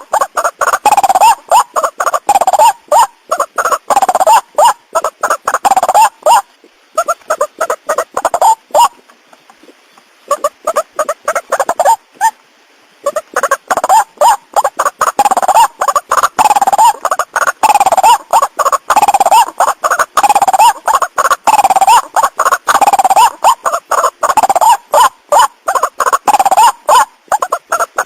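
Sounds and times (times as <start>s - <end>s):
waterhen calling harsh notes: 0.0s - 12.4s, 13.0s - 28.0s.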